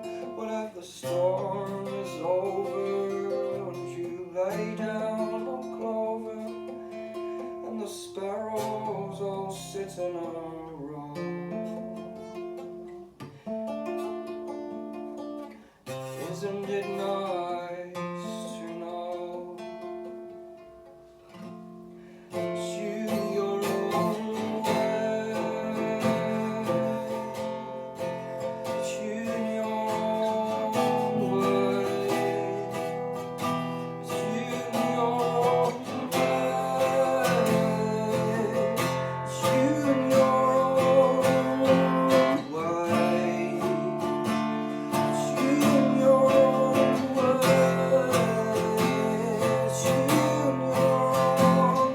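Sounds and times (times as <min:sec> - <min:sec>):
acoustic guitar strummed and plucked: 0:00.0 - 0:51.9.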